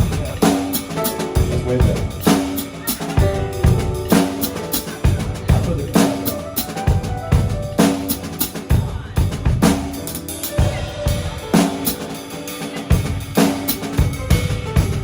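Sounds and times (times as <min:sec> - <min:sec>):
cymbals: 0:00.0 - 0:15.0.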